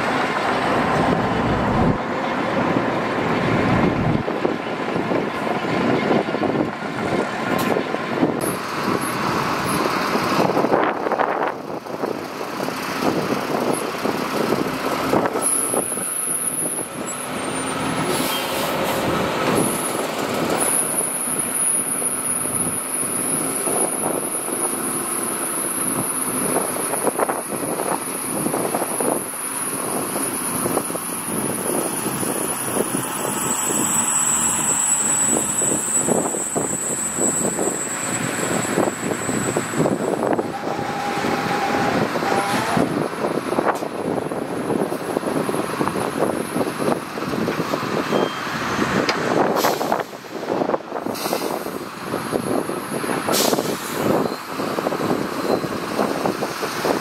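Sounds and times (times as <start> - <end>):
heavy diesel machinery working soil: 0.0 - 57.0.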